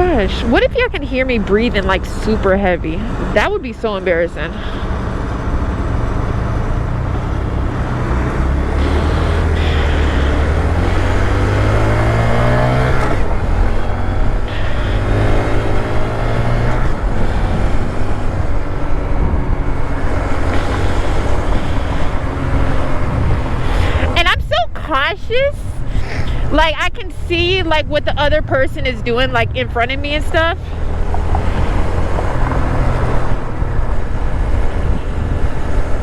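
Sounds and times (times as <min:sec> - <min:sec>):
motorcycle engine accelerating: 0:00.0 - 0:25.1, 0:25.7 - 0:36.0
road and wind noise: 0:00.0 - 0:36.0.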